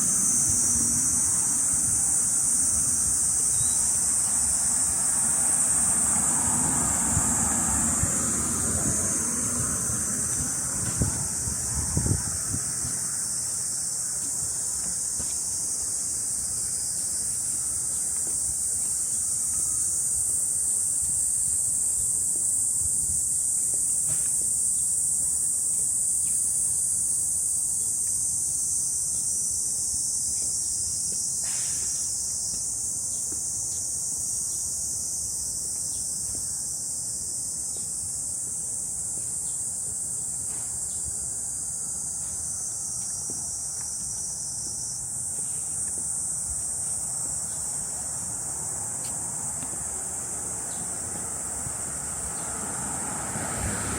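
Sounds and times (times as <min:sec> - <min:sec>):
cicadas buzzing: 0:00.0 - 0:53.9.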